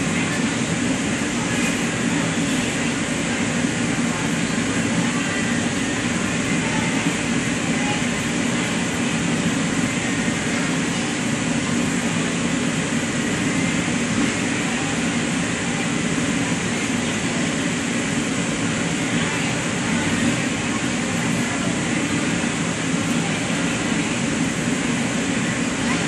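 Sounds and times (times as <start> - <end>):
ventilation unit humming: 0.0 - 26.0.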